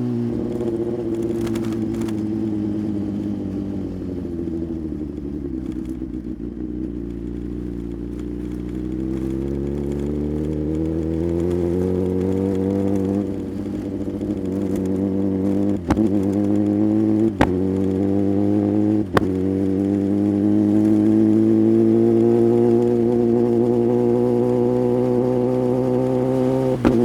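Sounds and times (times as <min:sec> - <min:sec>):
motorcycle engine revving up: 0:00.0 - 0:27.0.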